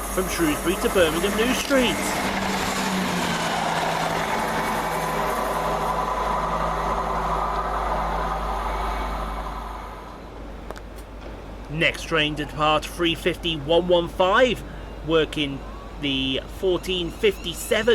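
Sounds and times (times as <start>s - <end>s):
rail and wheel noise: 0.0s - 17.9s
train engine drone: 0.0s - 17.9s.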